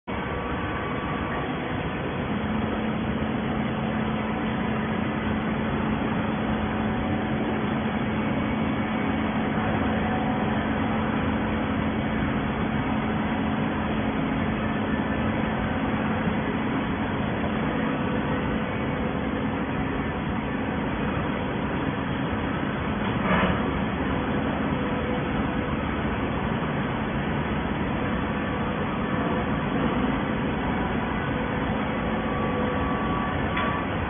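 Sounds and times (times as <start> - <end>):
constant low hum: 0.0 - 34.0
baler machine running: 0.1 - 34.0.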